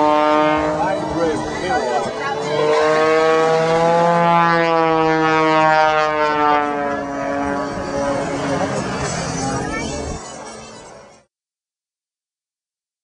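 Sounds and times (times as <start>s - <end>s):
aircraft engine droning: 0.0s - 11.0s.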